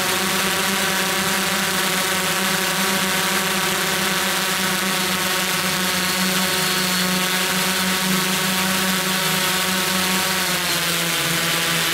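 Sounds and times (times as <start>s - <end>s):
drone motors humming: 0.0s - 11.9s.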